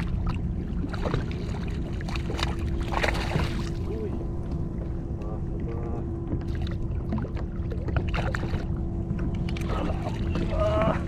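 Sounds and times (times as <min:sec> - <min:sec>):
water sloshing around a kayak: 0:00.0 - 0:11.0
wind rumble on microphone: 0:00.0 - 0:11.0.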